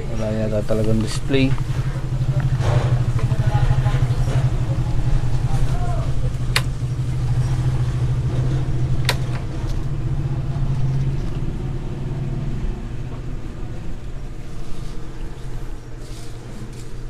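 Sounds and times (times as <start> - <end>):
steady low rumble: 0.0 - 16.6.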